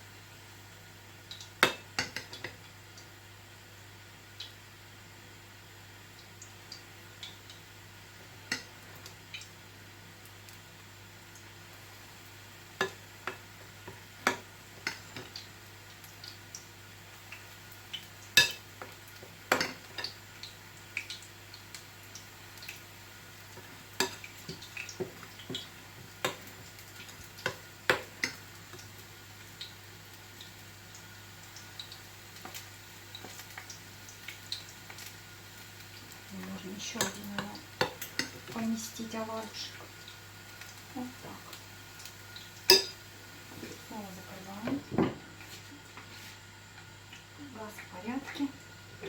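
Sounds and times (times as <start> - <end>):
oil sizzling: 0.0 - 49.0.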